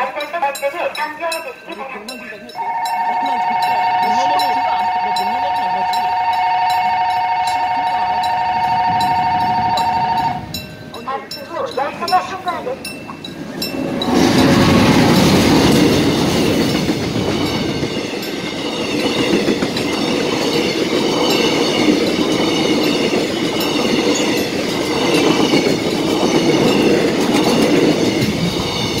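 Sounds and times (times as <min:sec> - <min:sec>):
electric locomotive passing: 0:00.0 - 0:29.0
train wheels clacking over rails: 0:00.0 - 0:29.0.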